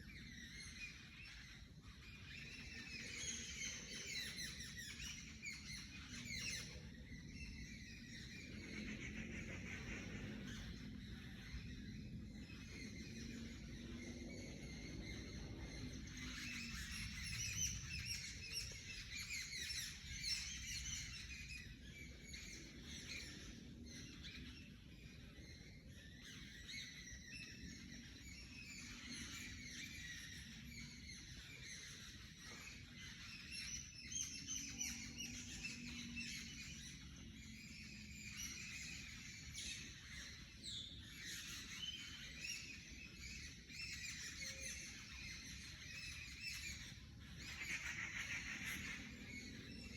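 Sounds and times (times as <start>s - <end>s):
forest birds singing: 0.0s - 49.9s.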